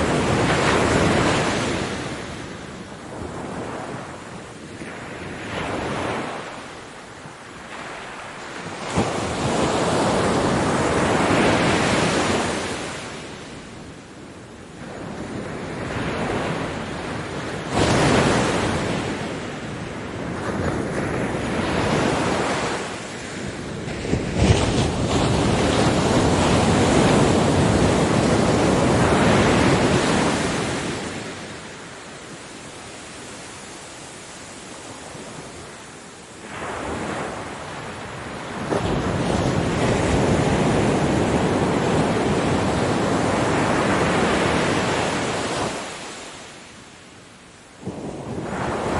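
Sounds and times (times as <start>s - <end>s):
ocean waves breaking on beach: 0.0s - 48.9s.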